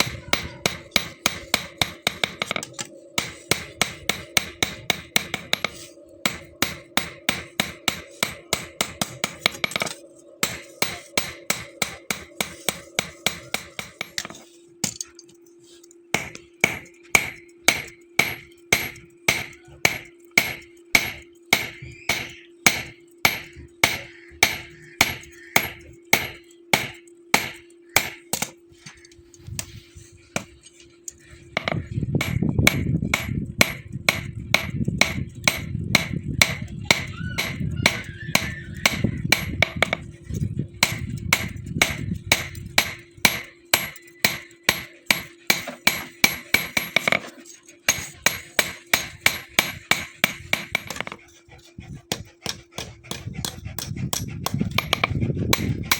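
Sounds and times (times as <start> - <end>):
hammer striking steel on anvil: 0.0 - 15.1, 16.1 - 28.6, 31.6 - 47.3, 47.9 - 51.2, 52.1 - 55.9
steady hum: 0.0 - 55.9.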